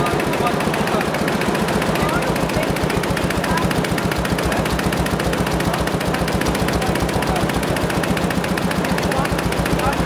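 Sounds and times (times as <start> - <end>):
embroidery machine clattering: 0.0 - 10.0.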